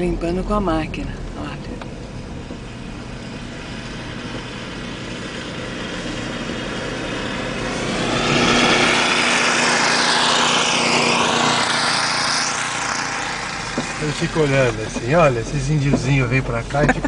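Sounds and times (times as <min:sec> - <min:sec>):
snowblower engine running: 0:02.2 - 0:17.0.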